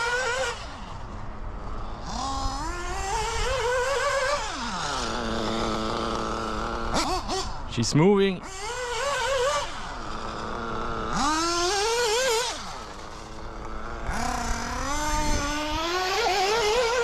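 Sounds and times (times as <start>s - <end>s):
model car nitro engine revving: 0.0s - 7.7s, 8.4s - 17.0s.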